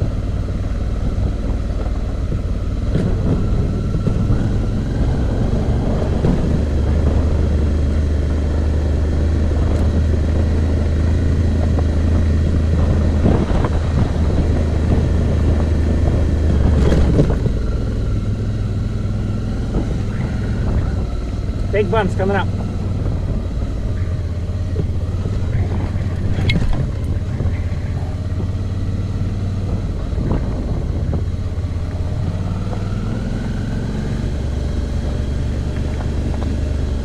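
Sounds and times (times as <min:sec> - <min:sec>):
motorcycle engine running: 0:00.0 - 0:37.0
wind noise on microphone: 0:00.0 - 0:37.0.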